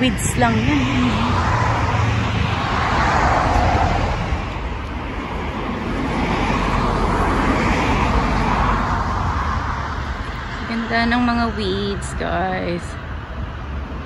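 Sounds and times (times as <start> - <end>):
cars going by: 0.0 - 14.0
steady low rumble: 0.0 - 14.0.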